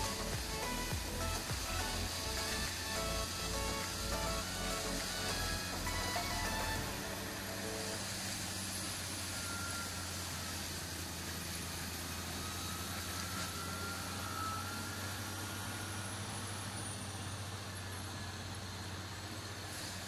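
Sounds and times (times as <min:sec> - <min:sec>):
mulcher grinding brush: 0:00.0 - 0:17.0
tractor engine running: 0:00.0 - 0:19.8
faint thin whine: 0:00.0 - 0:20.0.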